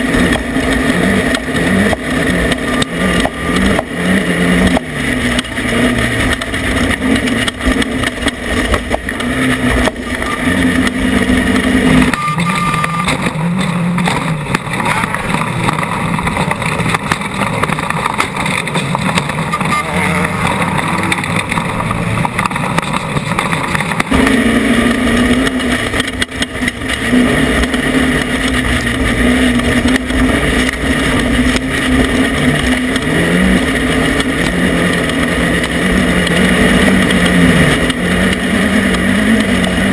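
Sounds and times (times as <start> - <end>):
driving noise: 0.0 - 39.9
race vehicle engine running hard: 0.0 - 39.9.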